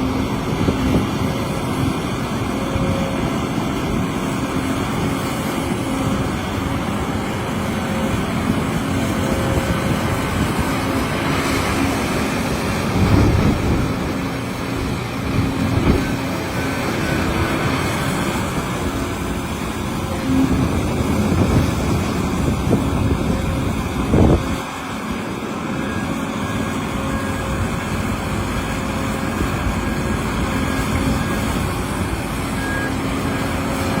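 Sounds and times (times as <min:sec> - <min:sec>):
excavator diesel engine rumbling: 0:00.0 - 0:34.0.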